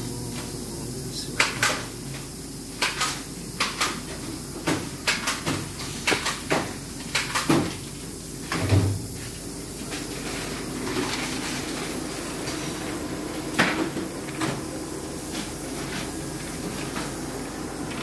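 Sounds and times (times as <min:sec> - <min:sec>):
steam sterilizer hum: 0:00.0 - 0:18.0.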